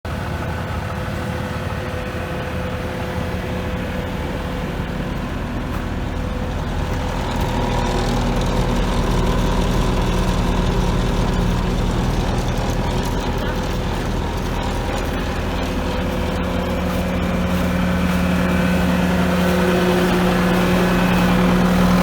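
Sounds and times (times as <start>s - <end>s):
diesel engine running: 0.1s - 22.0s.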